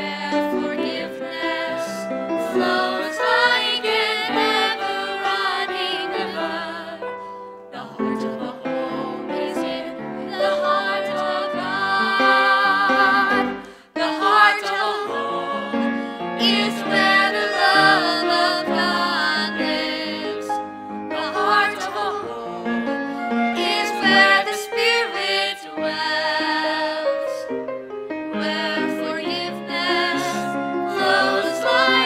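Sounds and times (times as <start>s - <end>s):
grand piano: 0.0s - 32.0s.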